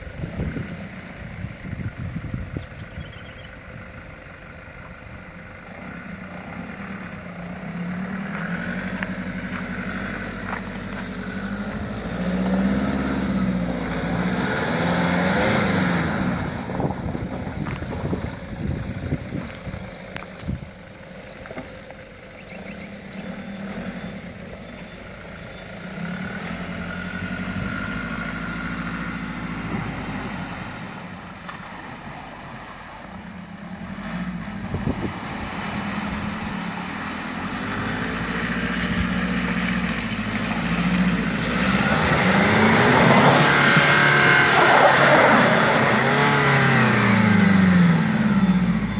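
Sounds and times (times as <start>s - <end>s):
vehicle engine revving: 5.6s - 31.4s, 33.1s - 48.9s.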